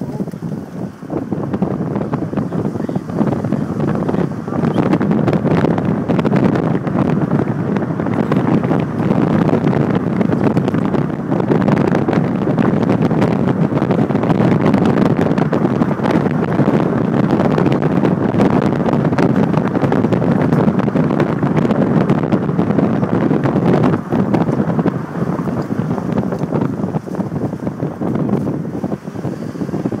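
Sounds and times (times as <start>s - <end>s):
car running and road noise: 0.0s - 30.0s
wind rushing on microphone: 0.0s - 30.0s.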